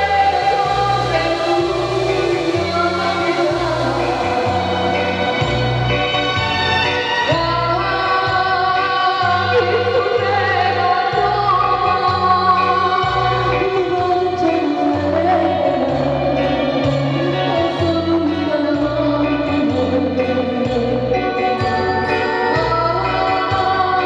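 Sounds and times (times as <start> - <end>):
electronic keyboard accompaniment: 0.0 - 24.0
woman singing into microphone: 0.0 - 24.0.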